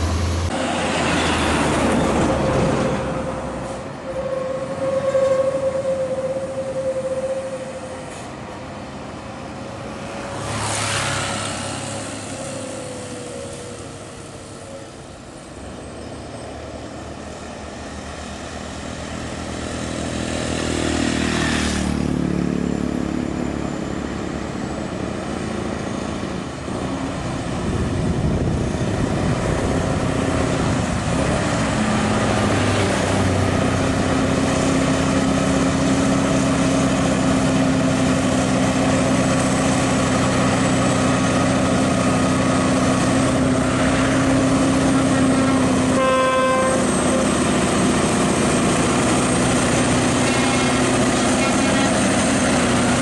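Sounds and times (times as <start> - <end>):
diesel engine drone: 0.0 - 53.0
truck passing: 0.0 - 53.0.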